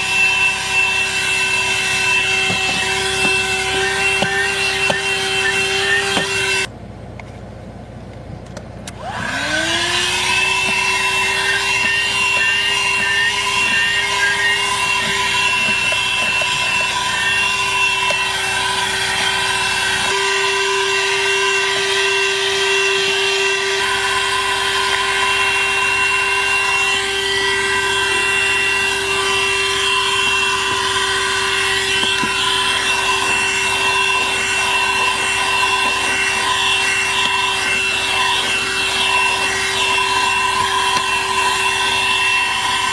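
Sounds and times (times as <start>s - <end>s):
handheld vacuum motor whining: 0.0s - 6.7s, 8.8s - 42.9s.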